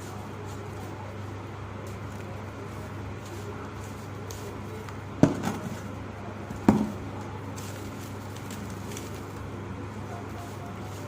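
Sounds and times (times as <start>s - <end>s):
dry clump crunching and crumbling: 0.0s - 11.0s
low steady hum: 0.0s - 11.0s.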